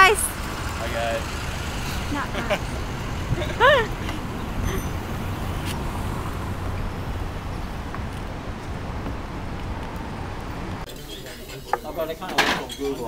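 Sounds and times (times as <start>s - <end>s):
traffic noise: 0.0s - 13.0s
low rumble: 0.3s - 10.9s.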